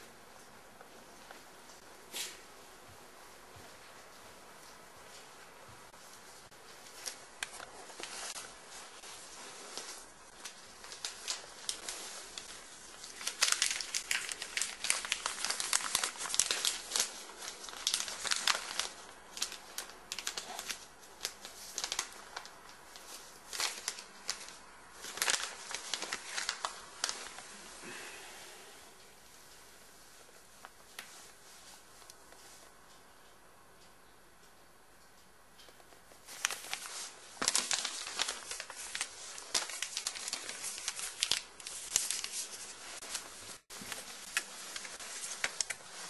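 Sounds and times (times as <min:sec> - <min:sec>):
paper crinkling and crackling: 0:03.5 - 0:27.9, 0:30.1 - 0:32.7, 0:35.6 - 0:46.0.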